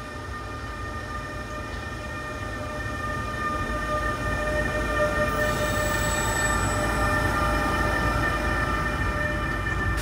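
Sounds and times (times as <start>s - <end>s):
electric locomotive whine: 0.0s - 10.0s
train wheels rumbling on rails: 0.0s - 10.0s.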